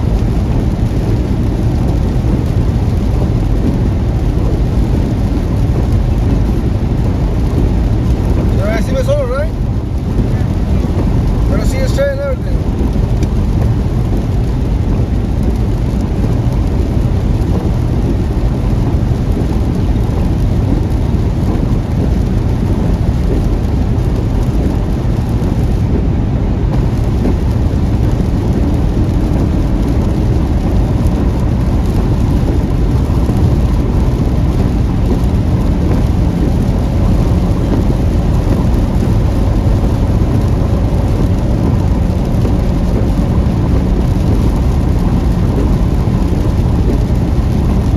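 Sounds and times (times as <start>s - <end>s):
car tyres and engine on wet road: 0.0s - 47.9s
heavy rain on a car: 0.0s - 47.9s.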